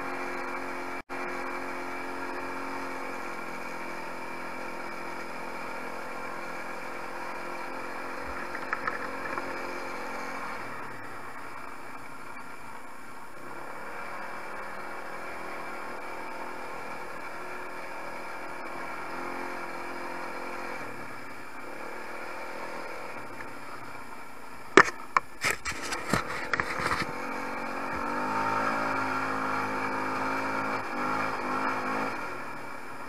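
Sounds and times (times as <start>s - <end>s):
quad bike engine running: 0.0s - 33.0s.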